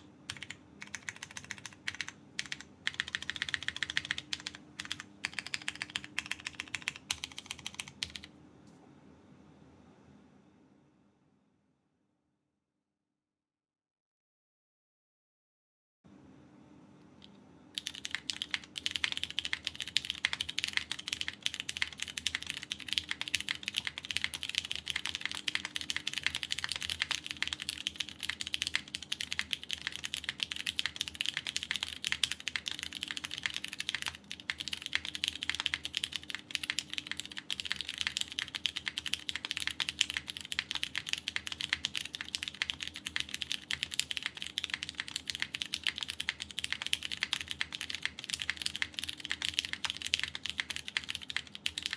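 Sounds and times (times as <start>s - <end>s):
mechanical keyboard typing: 0.0s - 8.3s, 17.8s - 51.9s.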